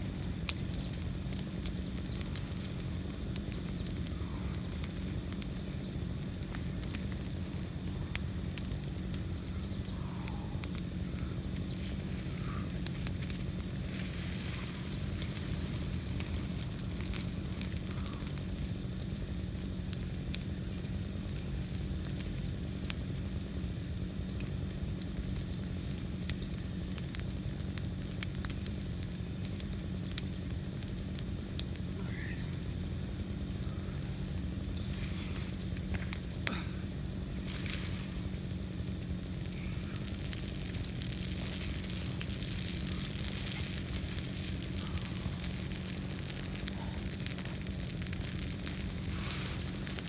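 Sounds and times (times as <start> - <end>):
fire crackling and popping: 0.0 - 50.0
low fire rumble: 0.0 - 50.0.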